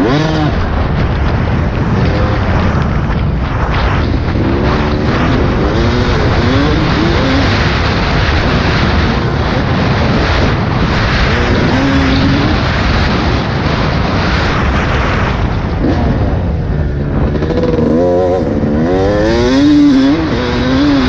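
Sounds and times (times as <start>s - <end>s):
dirt bike engine revving: 0.0s - 21.0s
loud steady rushing noise: 0.0s - 21.0s.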